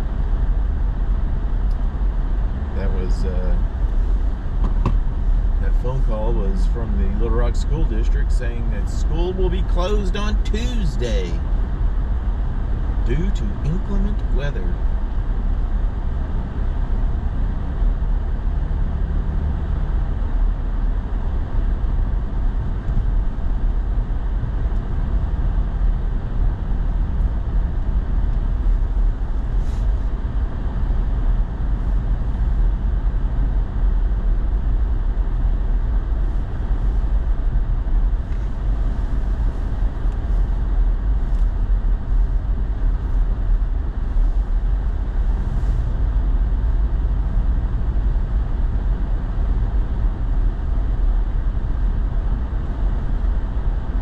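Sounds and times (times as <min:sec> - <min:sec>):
truck engine and tyres rumbling: 0:00.0 - 0:54.0.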